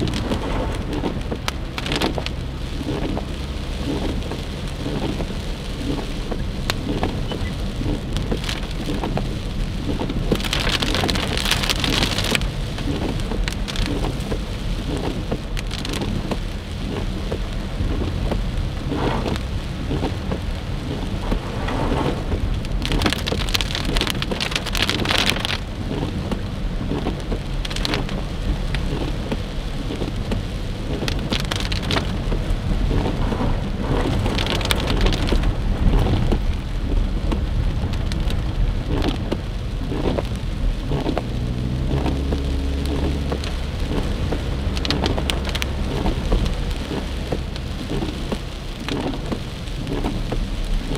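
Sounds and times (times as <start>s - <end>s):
heavy rain on car windshield: 0.0s - 50.9s
low road rumble: 0.0s - 50.9s.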